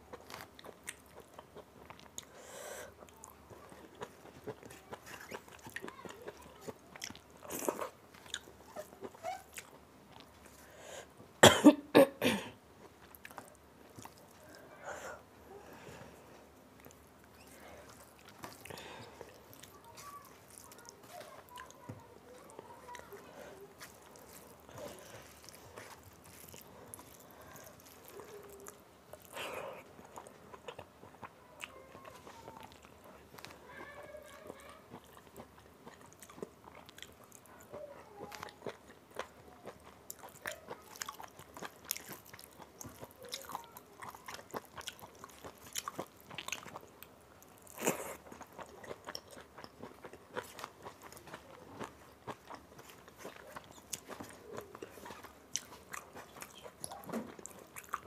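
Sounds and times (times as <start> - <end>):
chewing with wet mouth clicks: 0.1 - 2.4, 3.0 - 10.6, 16.8 - 23.2, 23.8 - 33.6, 34.2 - 58.0.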